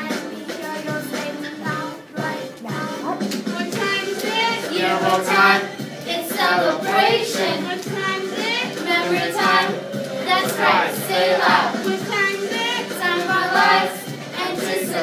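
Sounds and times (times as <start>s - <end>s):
backing music: 0.0s - 15.0s
young voices singing together: 0.0s - 15.0s.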